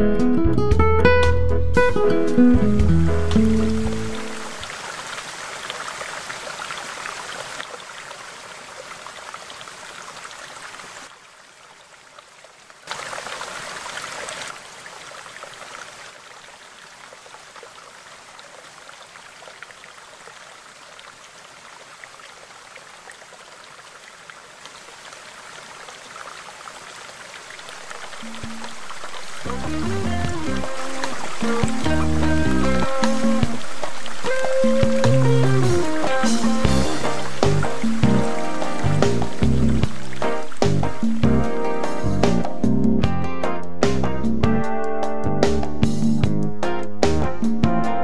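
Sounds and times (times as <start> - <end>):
fountain water splashing: 3.1 - 42.5.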